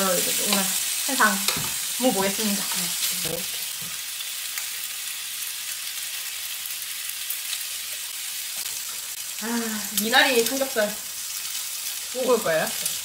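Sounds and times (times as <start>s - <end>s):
pork belly sizzling: 0.0s - 13.0s.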